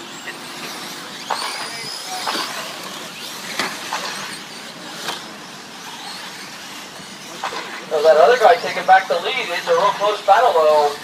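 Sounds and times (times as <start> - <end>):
rc truck motor whine: 0.0 - 11.0.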